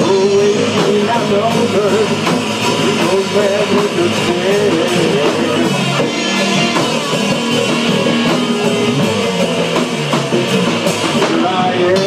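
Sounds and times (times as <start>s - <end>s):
drum kit: 0.0s - 12.0s
electric guitar: 0.0s - 12.0s.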